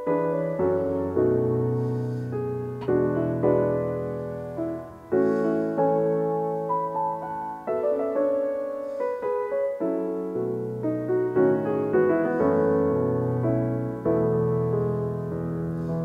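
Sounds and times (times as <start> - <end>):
piano melody of held notes: 0.0 - 16.0.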